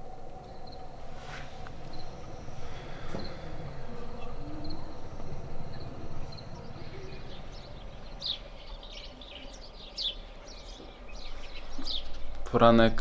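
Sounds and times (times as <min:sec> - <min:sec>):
low rumbling hum: 0:00.0 - 0:13.0
small birds chirping: 0:00.0 - 0:13.0.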